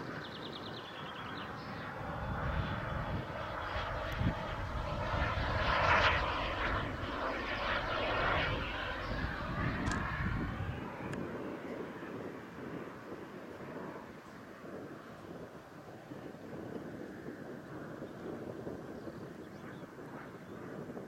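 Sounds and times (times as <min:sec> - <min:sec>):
model jet flying past: 0:00.0 - 0:21.0.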